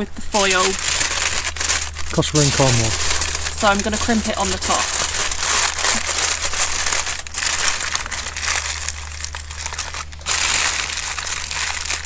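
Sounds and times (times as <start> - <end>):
kitchen foil crinkling: 0.3 - 12.0.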